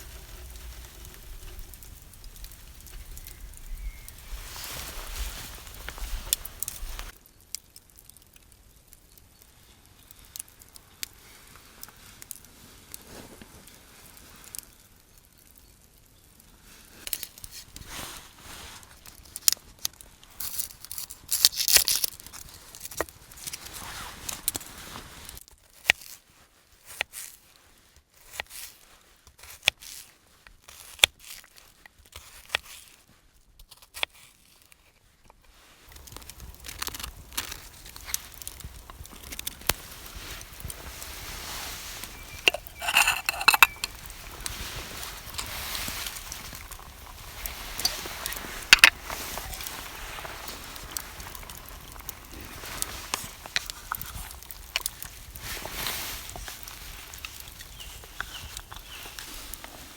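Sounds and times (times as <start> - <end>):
rustling and crinkling: 0.0 - 15.8, 16.4 - 59.9.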